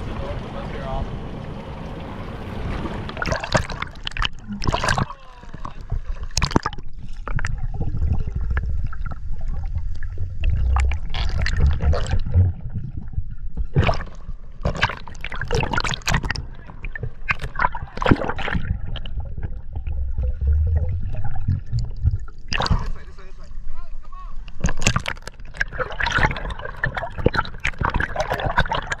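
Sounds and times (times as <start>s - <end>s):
low rumble of moving water: 0.0s - 29.0s
water sloshing and bubbling: 0.0s - 29.0s
water splashing: 0.0s - 29.0s.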